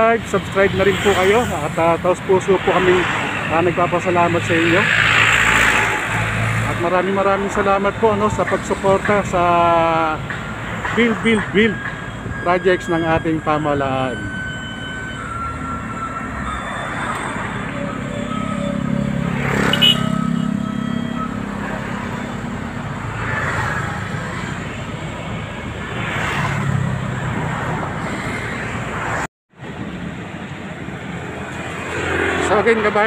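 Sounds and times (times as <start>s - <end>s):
cars and motorcycles passing: 0.0s - 33.0s.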